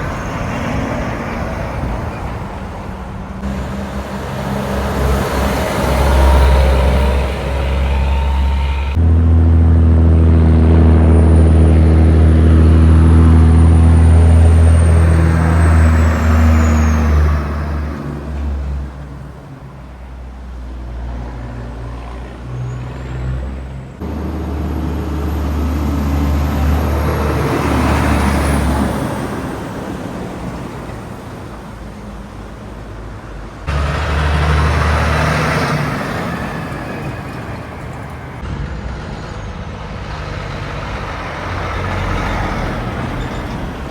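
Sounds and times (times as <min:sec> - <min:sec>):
heavy trucks passing: 0:00.0 - 0:43.9.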